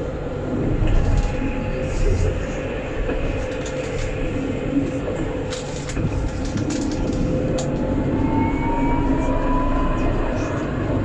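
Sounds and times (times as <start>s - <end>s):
tram rolling on rails: 0.0s - 11.0s.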